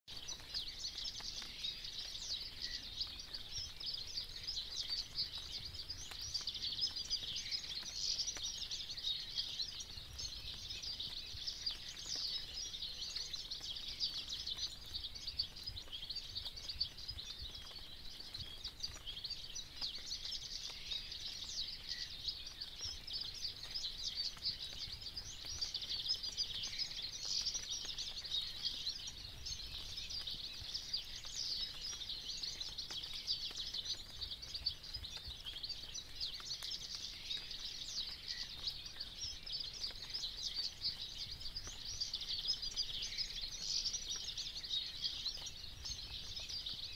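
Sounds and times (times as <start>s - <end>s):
songbirds chirping: 0.1s - 46.9s.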